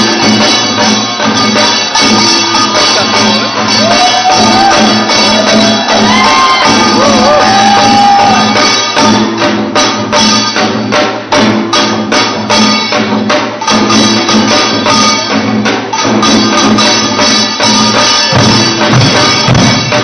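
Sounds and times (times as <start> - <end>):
barrel drums played in ensemble: 0.0 - 20.0.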